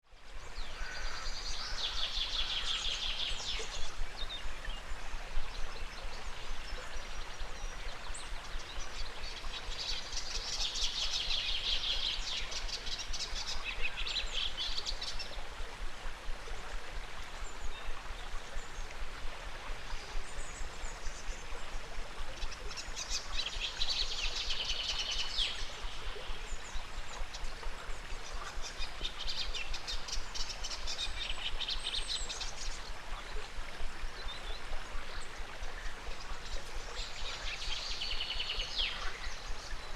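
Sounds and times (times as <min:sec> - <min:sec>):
river flowing: 0:00.1 - 0:39.9.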